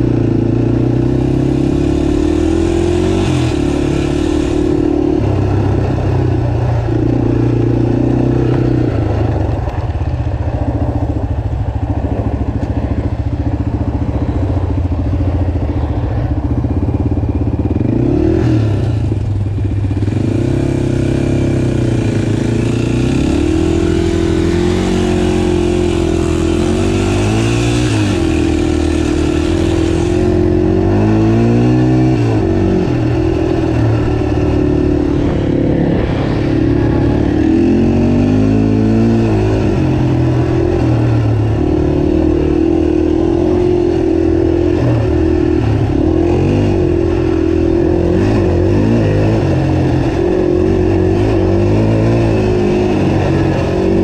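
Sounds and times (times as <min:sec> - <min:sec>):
off-road vehicle engine revving: 0:00.0 - 0:09.9, 0:19.9 - 0:54.0.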